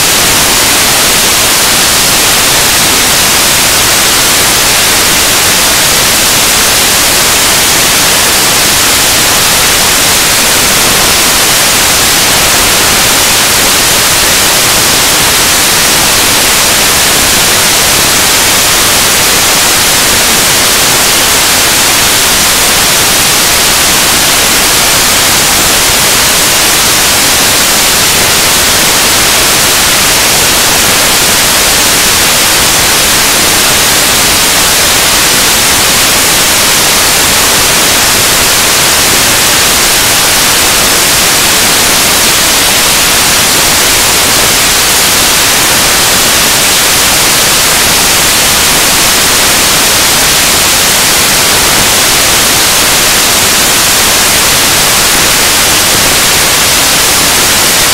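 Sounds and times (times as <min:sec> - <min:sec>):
static hiss: 0:00.0 - 0:57.9.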